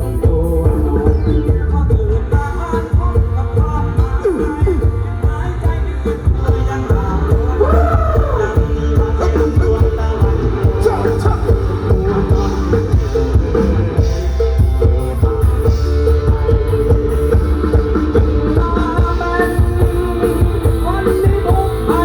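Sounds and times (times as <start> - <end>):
person singing: 0.0 - 22.0
rock band music: 0.0 - 22.0.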